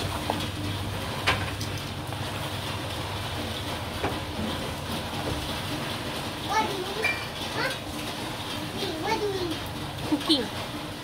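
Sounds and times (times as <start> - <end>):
curry simmering in a wok: 0.0 - 9.5.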